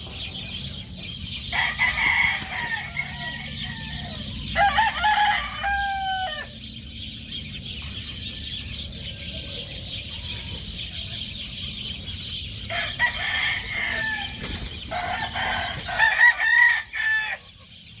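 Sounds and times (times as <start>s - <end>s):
chickens calling: 0.0s - 18.0s
roosters crowing: 0.2s - 18.0s.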